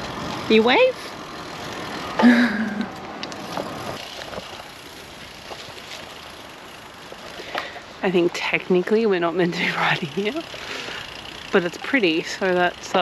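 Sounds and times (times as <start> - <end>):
bicycle tyres rolling: 0.0 - 13.0.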